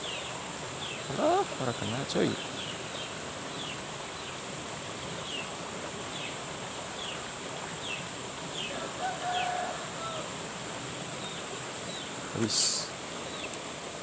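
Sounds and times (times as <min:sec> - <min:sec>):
high insect drone: 0:00.0 - 0:14.0
outdoor hiss: 0:00.0 - 0:14.0.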